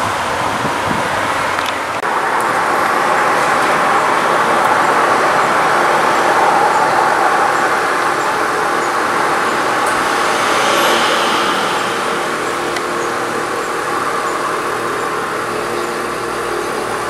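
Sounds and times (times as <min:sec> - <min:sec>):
car pulling away slowly: 0:00.0 - 0:17.0
vans driving past: 0:00.0 - 0:17.0.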